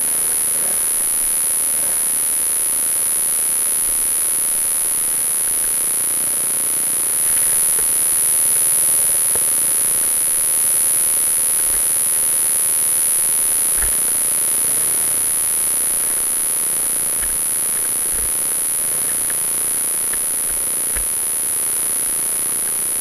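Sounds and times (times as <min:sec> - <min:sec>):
high-pitched whine: 0:00.0 - 0:23.0
loud steady hiss: 0:00.0 - 0:23.0.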